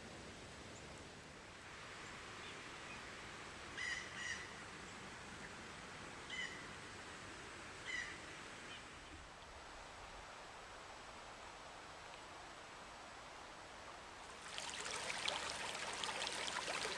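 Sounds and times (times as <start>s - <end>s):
outdoor hiss: 0.0s - 16.9s.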